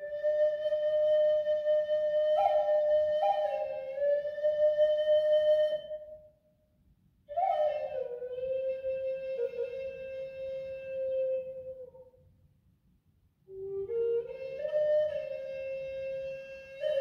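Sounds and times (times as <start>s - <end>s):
breathy flute melody: 0.0s - 6.3s, 7.3s - 12.2s, 13.5s - 17.0s.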